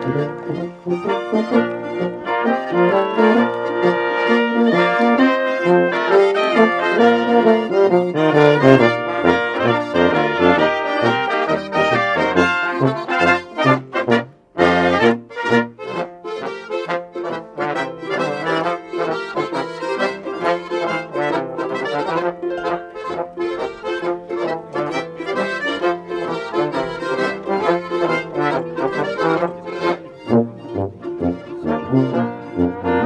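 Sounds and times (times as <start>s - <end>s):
polka music with brass and accordion: 0.0s - 33.0s.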